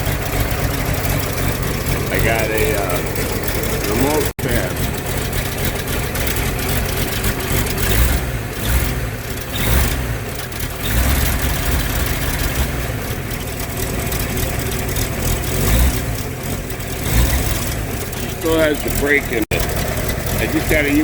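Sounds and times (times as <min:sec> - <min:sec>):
car engine idling roughly: 0:00.0 - 0:21.0.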